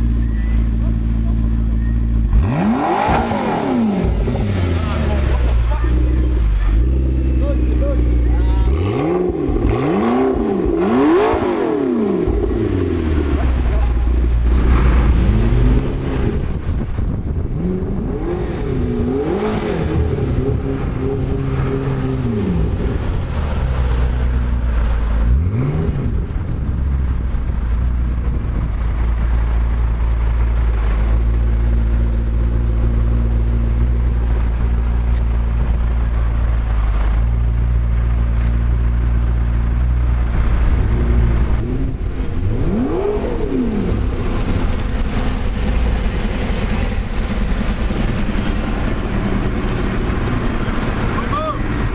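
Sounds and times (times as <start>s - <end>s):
car engine revving and idling: 0.0s - 51.9s.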